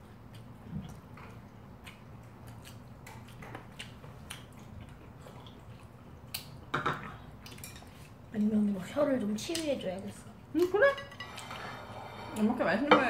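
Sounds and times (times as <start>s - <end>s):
people chewing with mouth clicks: 0.0s - 10.8s.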